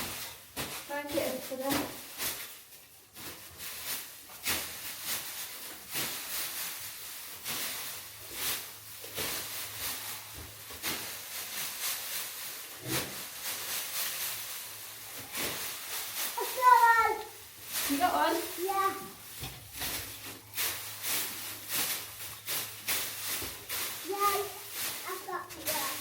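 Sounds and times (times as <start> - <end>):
bedding rustling swishes: 0.0 - 26.0.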